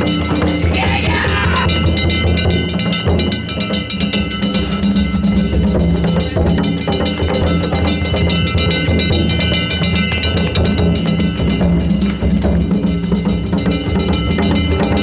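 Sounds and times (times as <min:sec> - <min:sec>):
taiko drum beating: 0:00.0 - 0:15.0.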